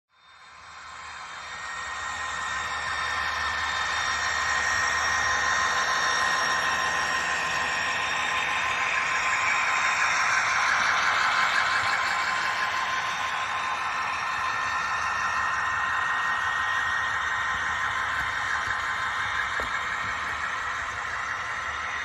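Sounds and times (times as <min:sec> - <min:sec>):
model train whirring on track: 0:00.1 - 0:22.0.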